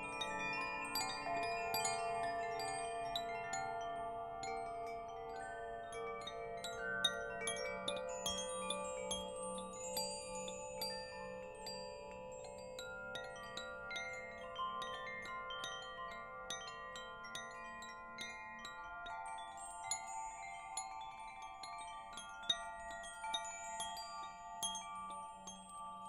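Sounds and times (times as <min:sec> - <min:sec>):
wind chimes ringing: 0:00.0 - 0:26.0.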